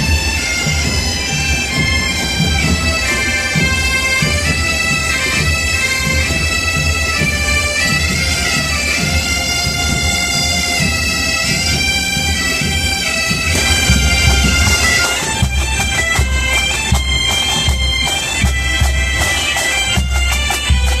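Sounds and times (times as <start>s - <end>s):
massed bagpipes playing: 0.0s - 21.0s.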